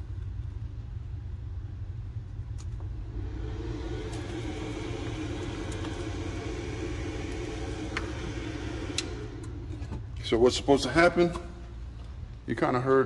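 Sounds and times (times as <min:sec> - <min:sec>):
machine humming: 0:00.0 - 0:12.5
low rumble: 0:00.0 - 0:12.7.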